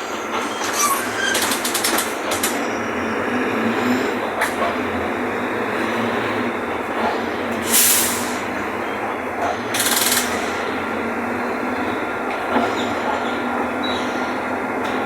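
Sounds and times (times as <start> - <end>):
bus diesel engine running: 0.0 - 15.0
road rumble: 0.0 - 15.0.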